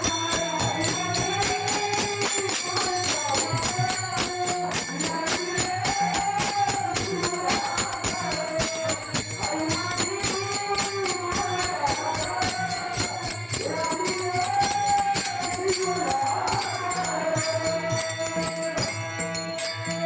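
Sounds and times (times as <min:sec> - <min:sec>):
group singing devotional song: 0:00.0 - 0:19.0
hand cymbals clashing: 0:00.0 - 0:20.0.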